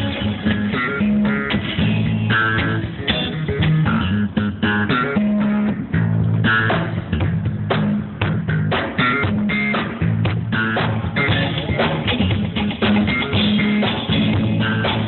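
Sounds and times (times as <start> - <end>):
bass guitar long low notes: 0.0 - 15.0
picked guitar notes: 0.0 - 15.0.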